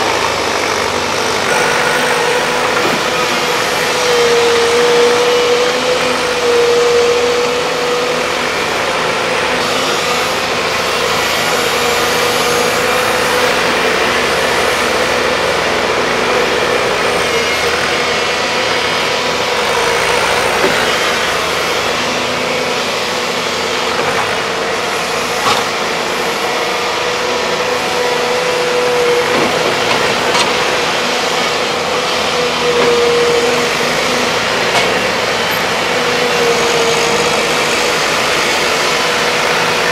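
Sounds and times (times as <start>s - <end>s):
excavator diesel engines running: 0.0s - 39.9s
sustained engine whine: 0.0s - 39.9s.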